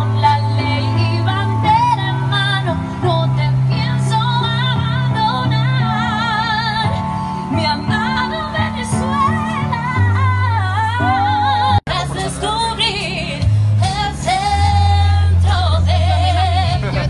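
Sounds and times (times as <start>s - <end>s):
steady bass accompaniment: 0.0s - 17.0s.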